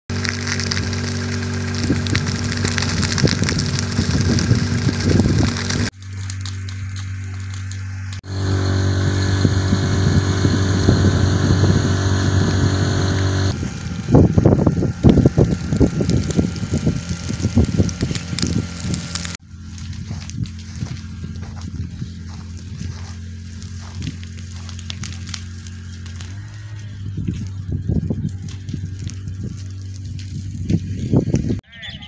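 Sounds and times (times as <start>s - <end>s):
pump engine humming: 0.1s - 30.6s
low rumbling gusts: 0.2s - 5.9s, 7.9s - 31.6s.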